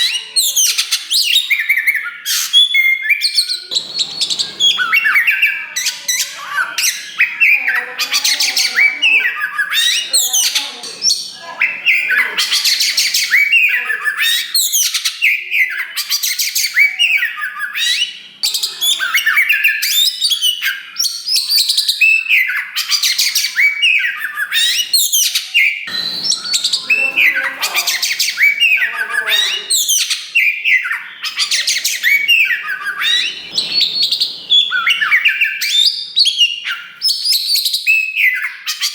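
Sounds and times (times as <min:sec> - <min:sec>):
songbird singing varied notes: 0:00.0 - 0:38.9.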